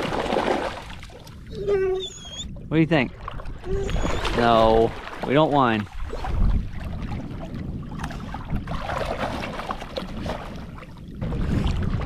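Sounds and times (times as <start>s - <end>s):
water lapping against boat hull: 0.0s - 12.0s
wind rumbling on microphone: 0.0s - 12.0s.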